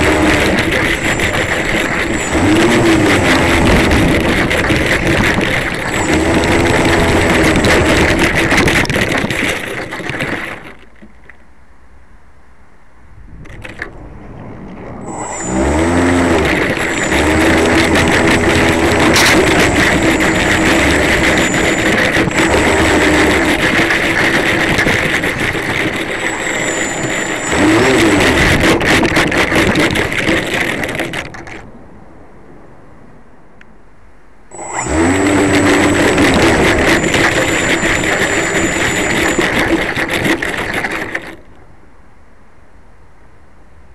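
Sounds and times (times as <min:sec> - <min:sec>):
model plane motor whining: 0:00.0 - 0:11.2, 0:14.6 - 0:31.7, 0:34.5 - 0:41.6.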